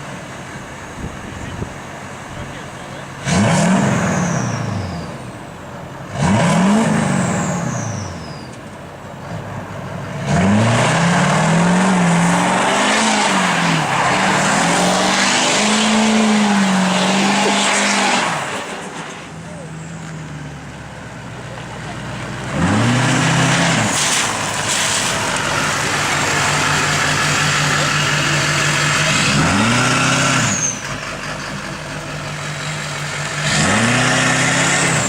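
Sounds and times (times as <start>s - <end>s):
diesel engine revving: 0.0s - 35.0s.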